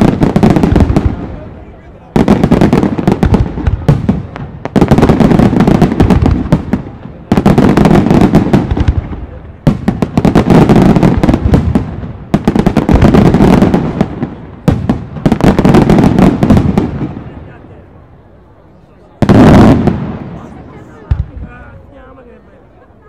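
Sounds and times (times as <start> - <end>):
fireworks bangs and crackling: 0.0 - 22.4.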